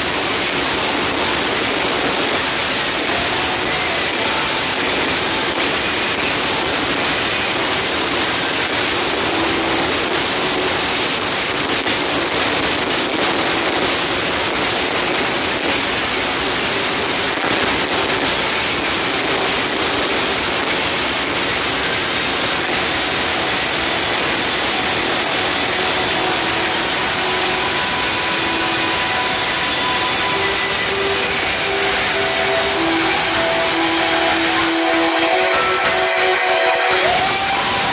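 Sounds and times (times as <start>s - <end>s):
distorted loud club music: 0.0s - 37.9s.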